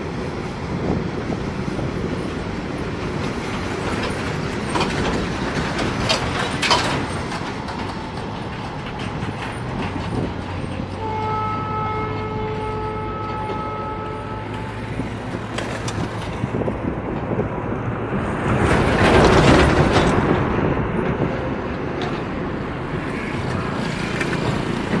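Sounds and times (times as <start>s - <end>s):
freight train wheels clattering: 0.0s - 25.0s.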